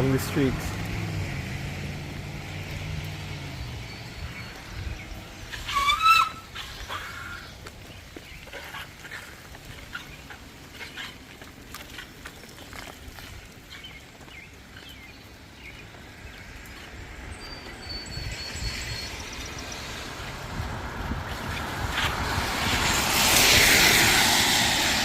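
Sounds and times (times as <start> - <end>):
vehicle approaching: 0.0 - 25.0.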